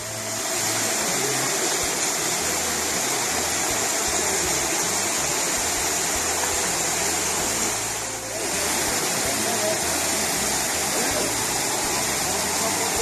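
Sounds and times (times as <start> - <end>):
flowing and falling water: 0.0 - 13.0.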